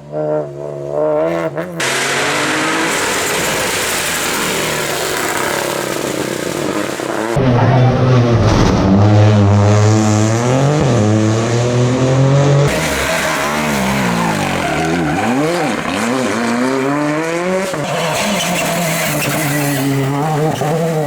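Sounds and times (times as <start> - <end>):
rally car engines revving: 0.0 - 21.0.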